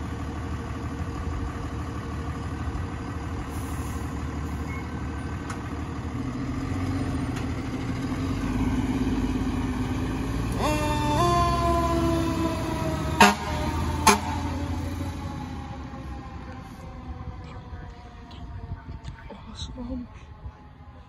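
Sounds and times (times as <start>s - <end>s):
diesel truck engine pulling away: 0.0s - 18.8s.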